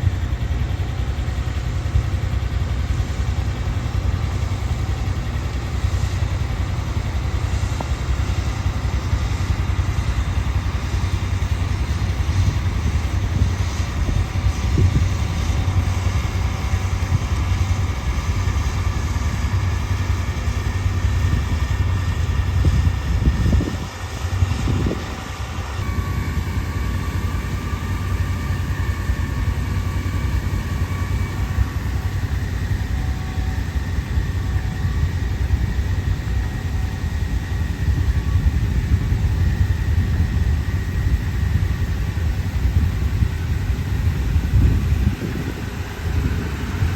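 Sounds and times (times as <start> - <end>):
tractor engine rumbling: 0.0 - 46.9.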